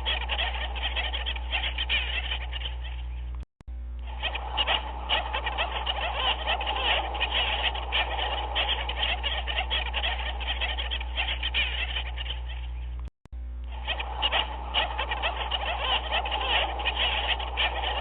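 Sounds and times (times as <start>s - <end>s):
animals croaking in chorus: 0.0s - 3.3s, 4.1s - 13.0s, 13.7s - 18.0s
steady low hum: 0.0s - 18.0s.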